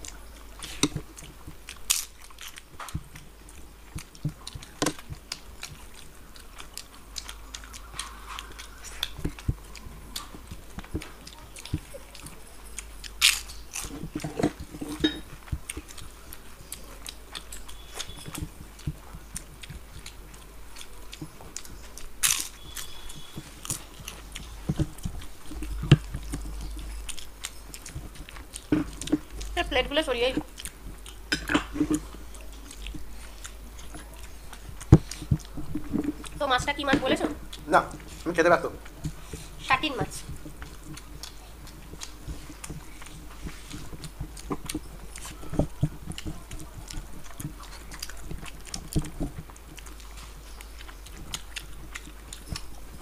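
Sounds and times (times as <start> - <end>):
people chewing: 0.0 - 53.0.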